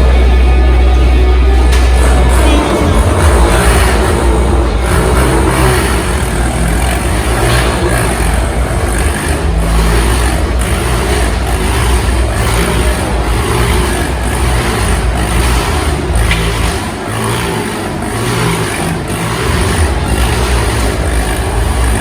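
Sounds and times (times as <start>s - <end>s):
small motorcycle engines revving: 0.0s - 22.0s.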